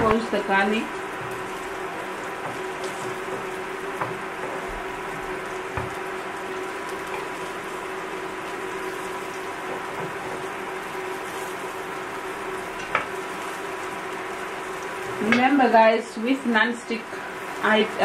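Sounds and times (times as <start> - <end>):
onion and garlic sizzling in pan: 0.0 - 18.0.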